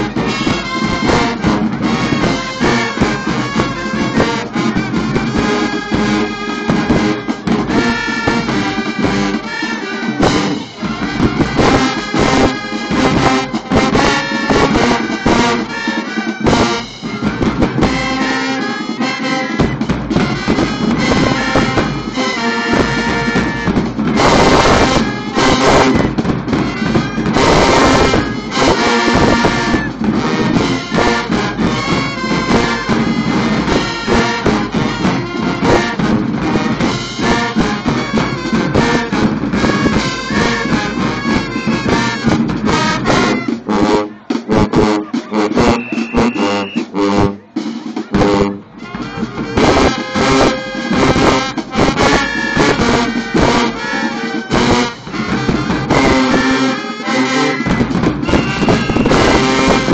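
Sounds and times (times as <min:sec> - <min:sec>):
marching band playing: 0:00.0 - 0:59.9.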